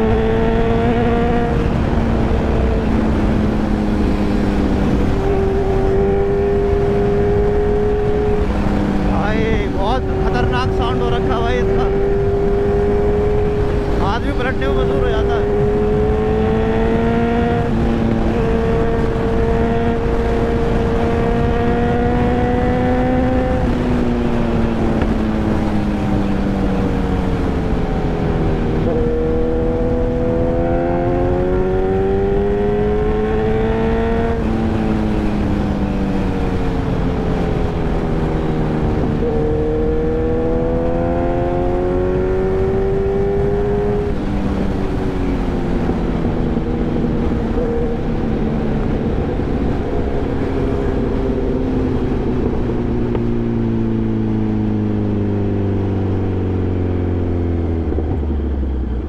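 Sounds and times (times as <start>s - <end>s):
motorcycle engine shifting gears: 0.0s - 59.0s.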